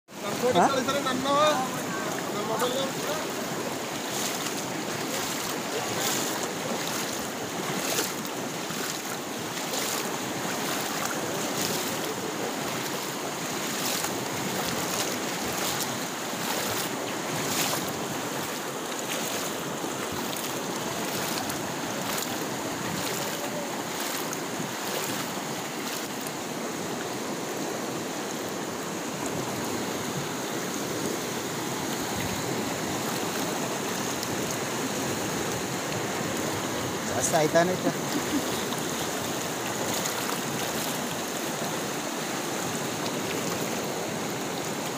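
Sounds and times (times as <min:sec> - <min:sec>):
flooded river rushing: 0:00.1 - 0:44.9
feet splashing through water: 0:00.2 - 0:27.2, 0:30.2 - 0:44.9.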